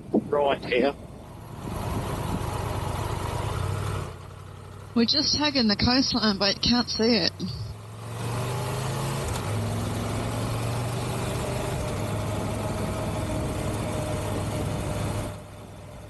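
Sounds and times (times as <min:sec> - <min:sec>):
motorcycle engine cruising: 0:00.0 - 0:16.0
road noise: 0:00.0 - 0:16.0.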